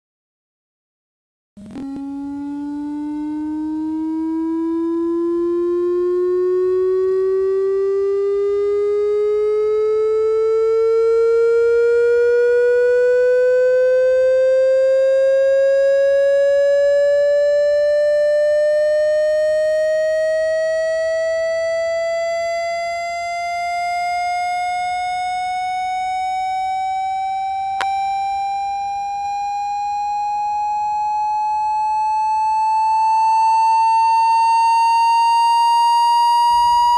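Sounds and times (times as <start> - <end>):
buzzy electronic tone rising in pitch: 1.6 - 36.9.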